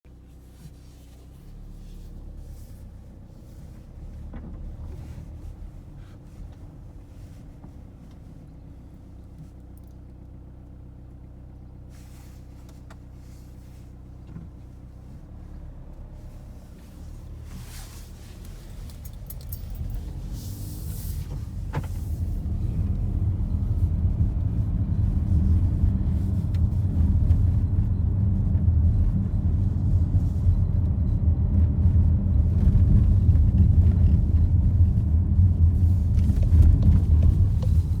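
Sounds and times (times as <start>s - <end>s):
low road rumble: 0.0s - 38.0s
car engine humming: 1.4s - 38.0s.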